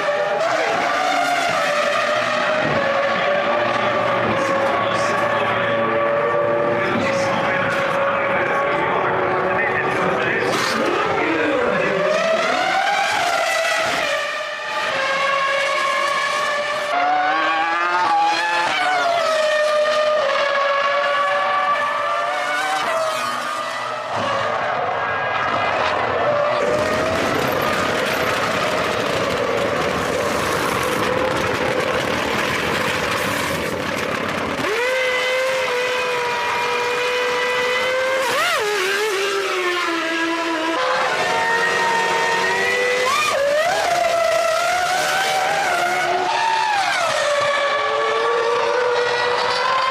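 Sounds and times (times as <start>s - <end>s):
racing car engines at high revs: 0.0s - 49.9s.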